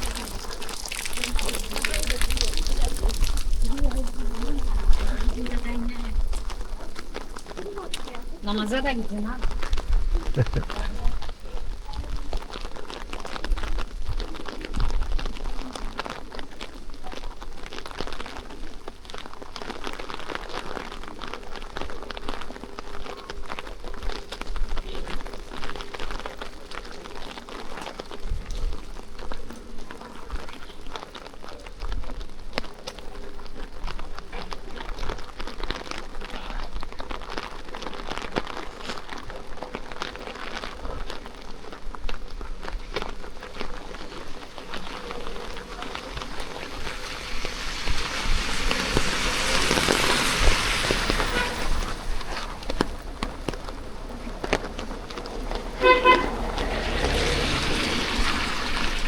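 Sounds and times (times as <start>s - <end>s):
steady rain falling: 0.0s - 59.0s
tyres hissing on wet road: 0.0s - 59.0s.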